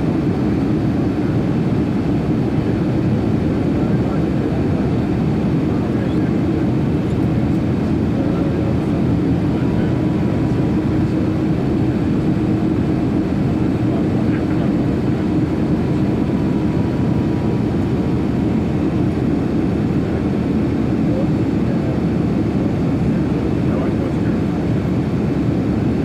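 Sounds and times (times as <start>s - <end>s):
airplane cabin roar: 0.0s - 26.0s.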